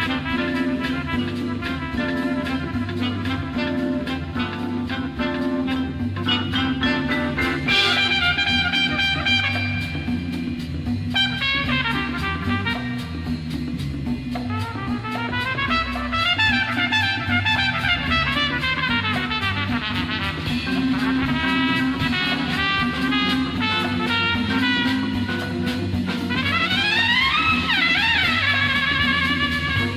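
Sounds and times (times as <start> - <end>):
bass figure: 0.0 - 29.9
drum kit with cymbal beat: 0.0 - 29.9
horn lines: 0.0 - 29.9.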